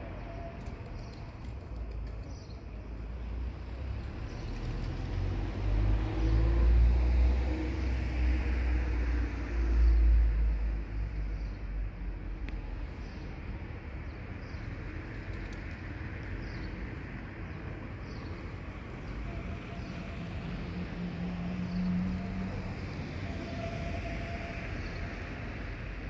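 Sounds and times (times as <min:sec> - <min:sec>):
distant traffic rumble: 0:00.0 - 0:26.0.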